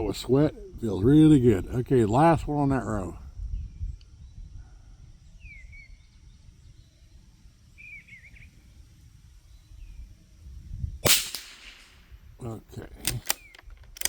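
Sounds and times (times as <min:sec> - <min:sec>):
wind rumble on microphone: 0:00.0 - 0:14.0
small birds chirping: 0:00.2 - 0:10.9, 0:11.7 - 0:14.0.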